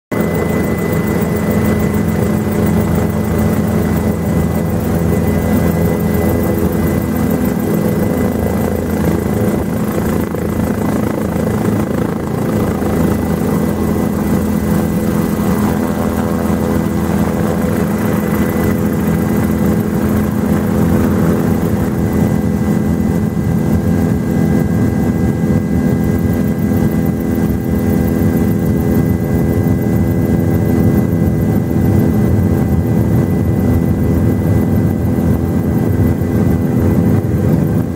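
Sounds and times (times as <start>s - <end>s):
helicopter engine and rotor: 0.1s - 37.9s.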